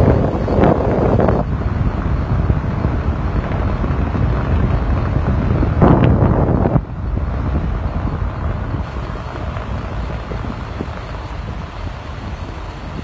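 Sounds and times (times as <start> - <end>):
car road rumble: 0.0 - 13.0
wind buffeting microphone: 0.0 - 13.0.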